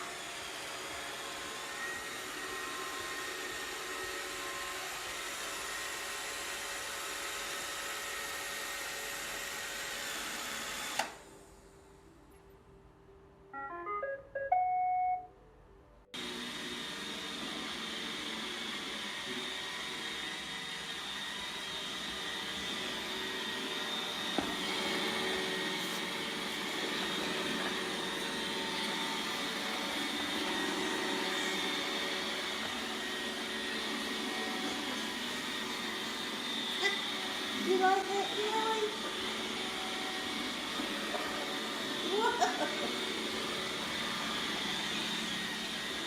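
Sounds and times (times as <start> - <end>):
vacuum motor whirring: 0.0 - 11.3, 16.2 - 46.0.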